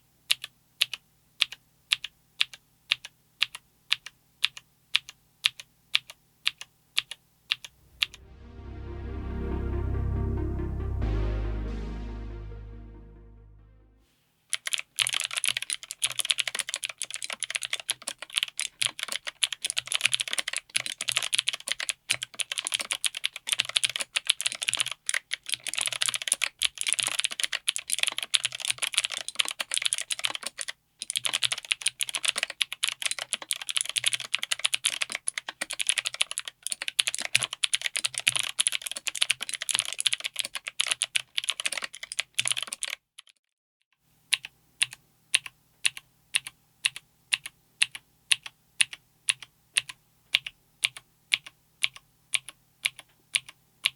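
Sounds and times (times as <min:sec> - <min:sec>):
fast mechanical keyboard typing: 0:00.3 - 0:07.7, 0:14.5 - 0:43.3, 0:44.3 - 0:53.9.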